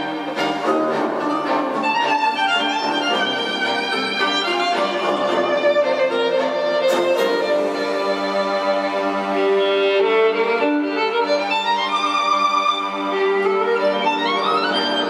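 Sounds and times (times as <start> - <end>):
violin-led string music: 0.0 - 15.0.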